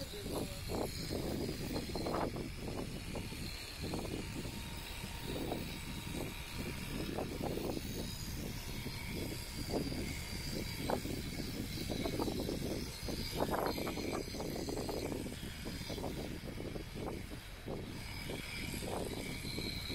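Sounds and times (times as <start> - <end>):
electric shearing handpiece motor: 0.0 - 19.9.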